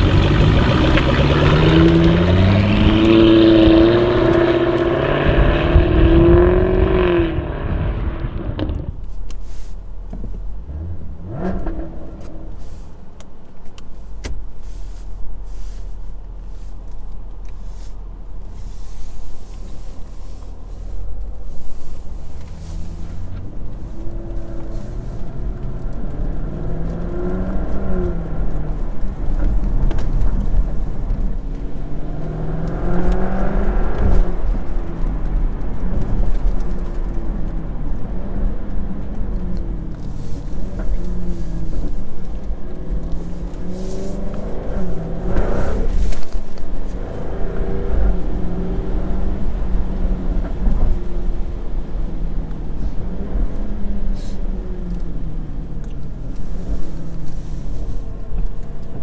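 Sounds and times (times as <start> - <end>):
car engine revving: 0.0 - 8.9, 10.6 - 12.9, 18.5 - 59.0
car engine rumble: 0.0 - 59.0.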